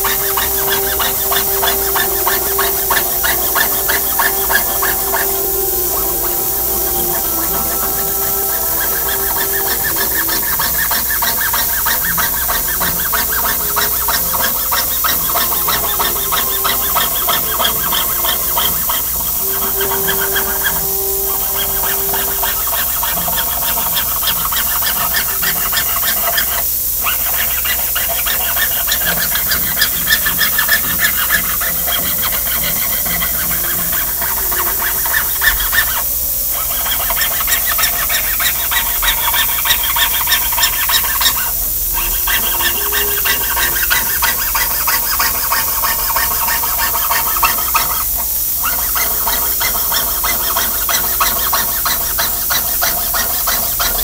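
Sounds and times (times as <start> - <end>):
fine saw cutting thin metal: 0.0 - 41.4, 42.0 - 54.0.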